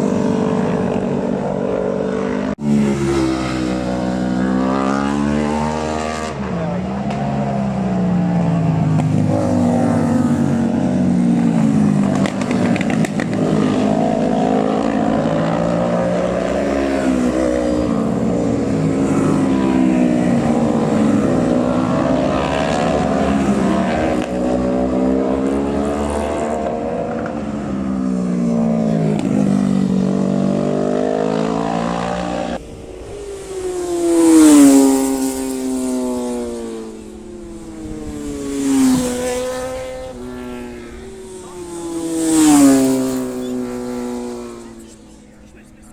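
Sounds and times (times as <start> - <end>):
motorcycle passing close: 0.0 - 45.9
racing motorcycles at high revs: 0.0 - 45.9.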